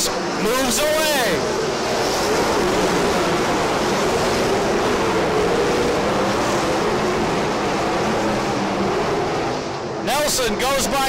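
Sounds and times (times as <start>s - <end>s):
racing car engines droning: 0.0s - 11.0s.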